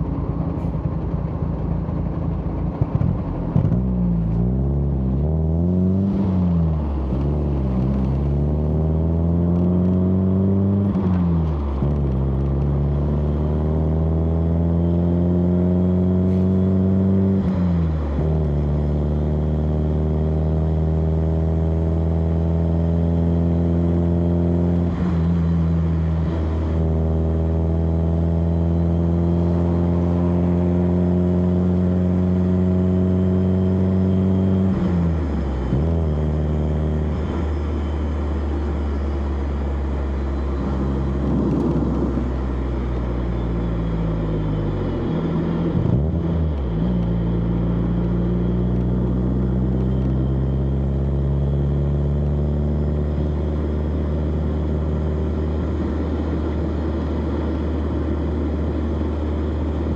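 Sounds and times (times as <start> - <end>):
car engine exhaust accelerating: 0.0 - 59.9.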